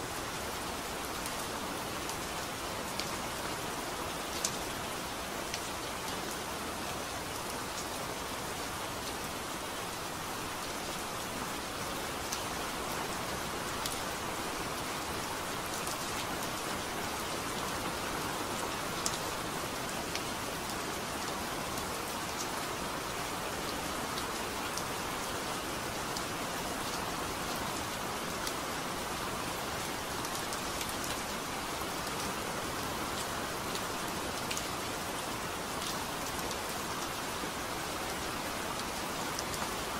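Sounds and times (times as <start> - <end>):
steady rain falling: 0.0 - 39.9
sharp ticks of raindrops: 0.1 - 39.9.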